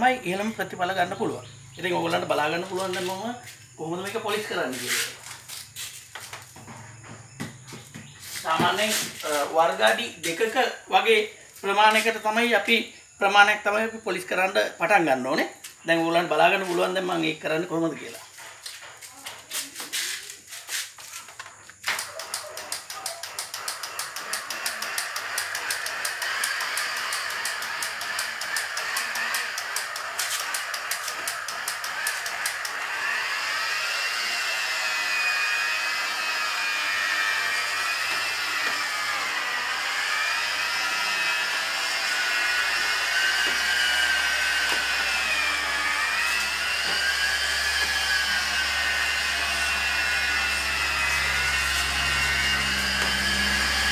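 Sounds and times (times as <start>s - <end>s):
rotary polisher motor whine: 0.0s - 12.8s, 21.3s - 53.9s.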